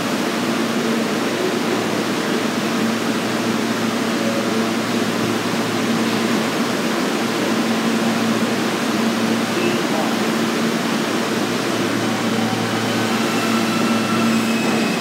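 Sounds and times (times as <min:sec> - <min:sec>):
train air-conditioning hiss and hum: 0:00.0 - 0:15.0.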